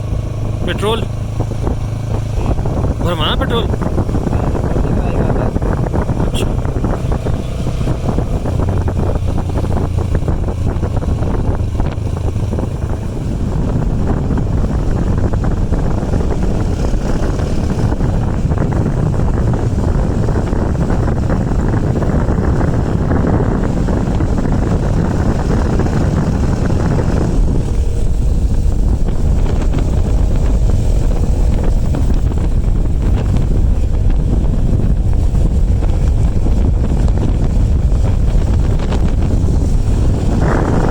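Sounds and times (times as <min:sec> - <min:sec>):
motorbike engine running: 0:00.0 - 0:40.9
wind rushing over microphone: 0:00.0 - 0:40.9.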